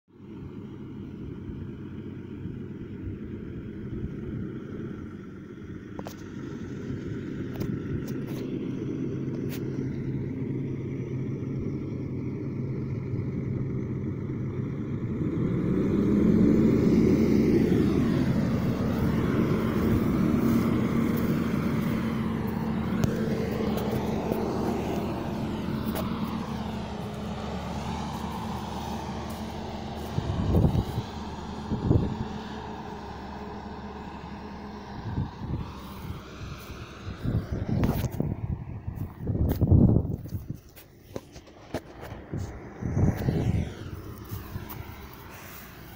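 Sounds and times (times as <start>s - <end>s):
wheel loader diesel engine revving: 0.2s - 40.5s, 41.5s - 45.9s.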